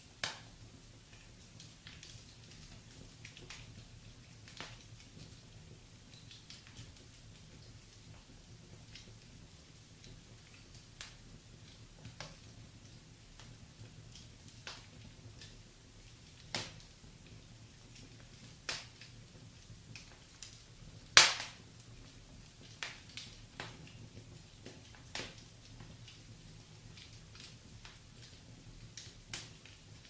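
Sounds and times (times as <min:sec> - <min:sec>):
faint steady hiss: 0:00.0 - 0:30.0
wood fire crackling: 0:00.0 - 0:30.0
sharp pops of fire: 0:00.1 - 0:30.0.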